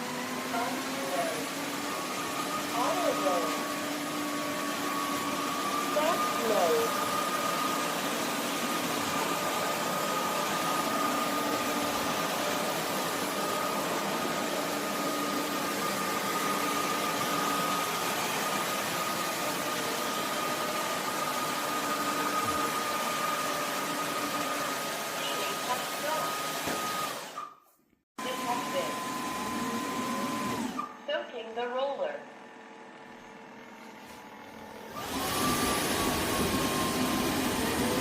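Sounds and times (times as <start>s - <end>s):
vacuum motor whir: 0.0s - 27.6s, 28.2s - 31.4s, 32.3s - 38.0s.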